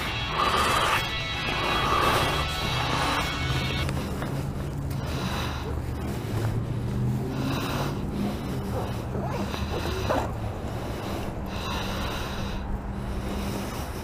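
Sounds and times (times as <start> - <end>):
person breathing heavily: 0.0 - 14.0.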